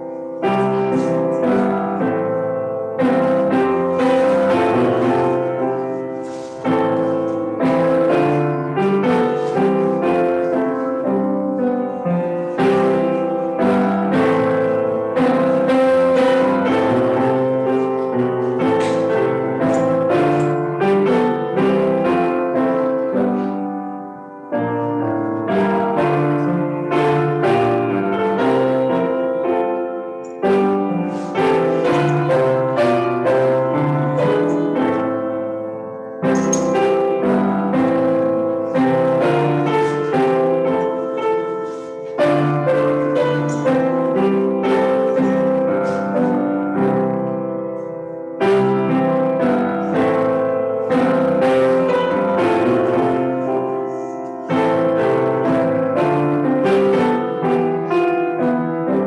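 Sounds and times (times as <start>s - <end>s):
solo piano music: 0.0s - 59.0s.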